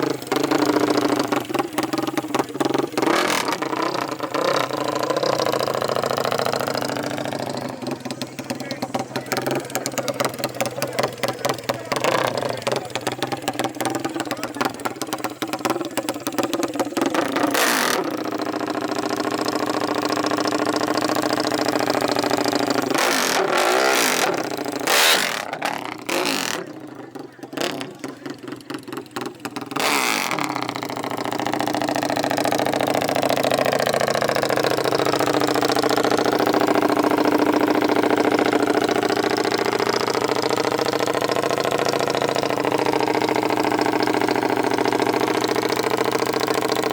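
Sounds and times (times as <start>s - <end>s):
engine loud bursts: 0.0s - 46.9s
motorcycle engines revving: 0.0s - 46.9s.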